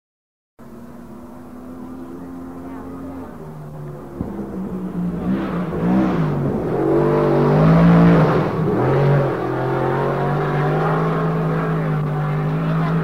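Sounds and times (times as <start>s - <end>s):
racing engine revving: 0.6s - 13.0s.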